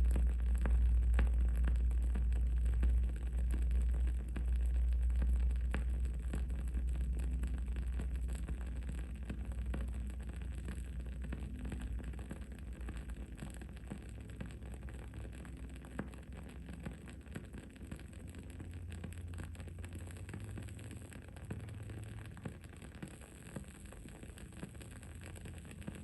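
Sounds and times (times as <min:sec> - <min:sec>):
candle crackling: 0:00.0 - 0:26.0
low background rumble: 0:00.0 - 0:26.0.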